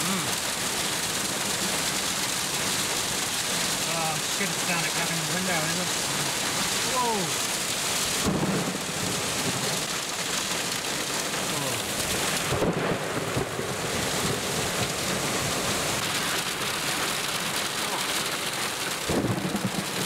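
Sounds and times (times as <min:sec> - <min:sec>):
rain and hail pelting car roof: 0:00.0 - 0:20.0.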